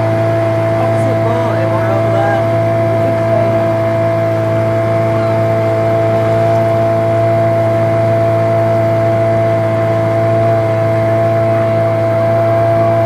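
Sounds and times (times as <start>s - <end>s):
motorboat engine drone: 0.0s - 13.0s.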